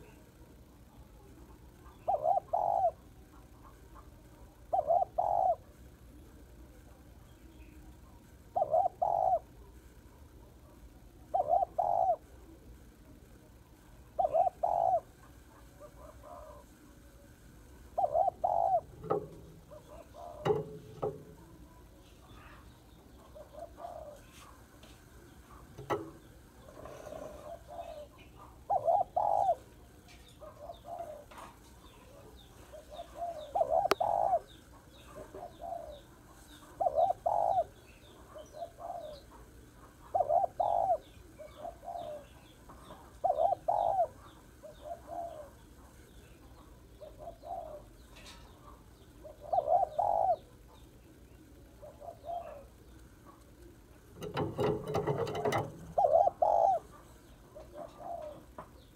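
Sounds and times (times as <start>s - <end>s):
dove cooing: 1.7s - 5.8s, 8.5s - 9.7s, 10.6s - 12.7s, 14.1s - 16.8s, 17.8s - 24.6s, 25.3s - 58.9s.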